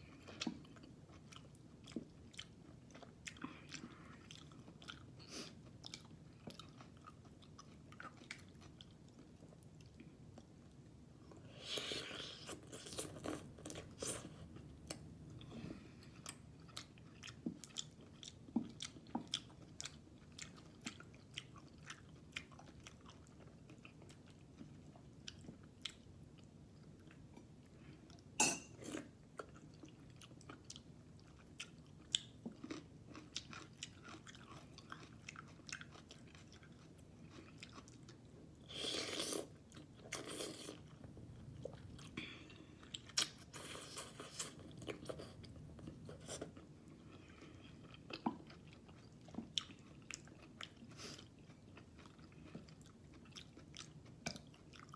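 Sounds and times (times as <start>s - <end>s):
chewing and mouth sounds: 0.0s - 54.9s.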